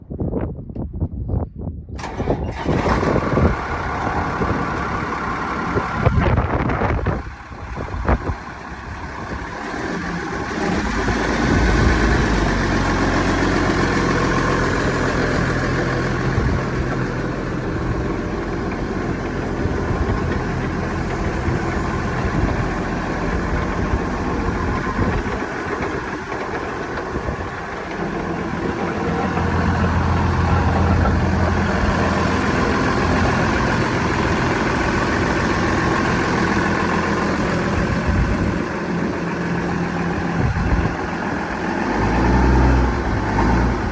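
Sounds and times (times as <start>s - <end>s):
tractor diesel engine running: 2.0s - 43.9s.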